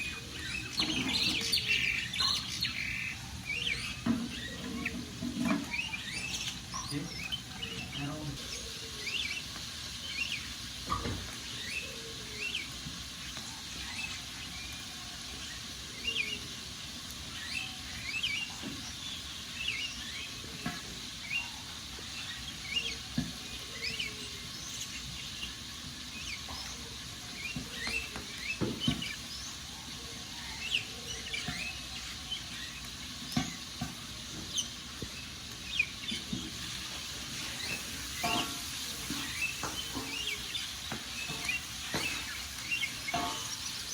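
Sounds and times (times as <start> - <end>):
small birds chirping: 0.0 - 43.9
wood fire crackling: 0.0 - 43.9.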